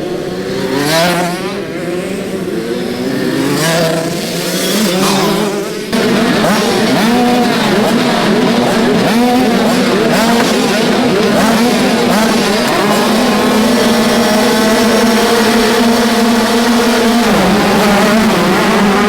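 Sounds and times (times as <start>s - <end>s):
motocross bikes revving: 0.0s - 19.0s
steady engine hum: 0.0s - 19.0s.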